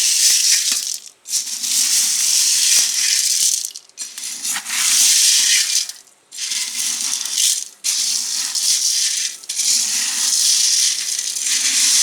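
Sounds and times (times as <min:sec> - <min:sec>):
crisp snack rattling in a vessel: 0:00.0 - 0:12.0.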